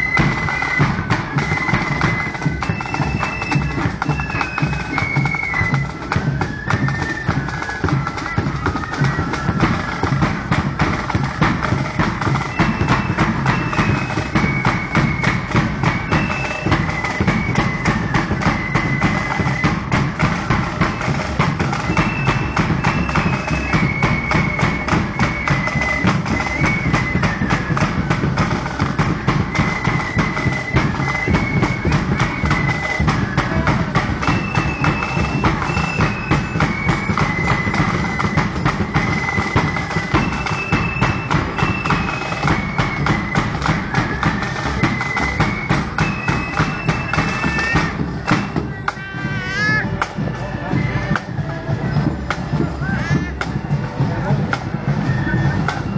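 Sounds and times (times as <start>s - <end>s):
high flute melody: 0.0s - 55.9s
snare and bass drumming: 0.0s - 55.9s.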